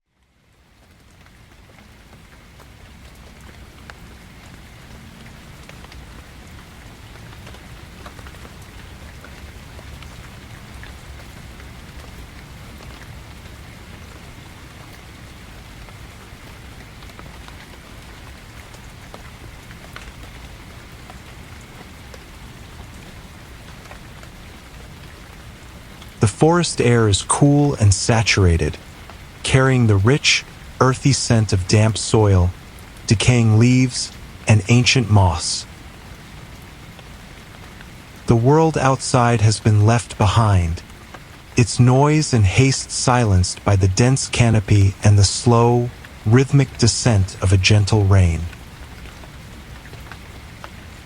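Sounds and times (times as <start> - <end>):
gentle steady rainfall: 0.0 - 51.0.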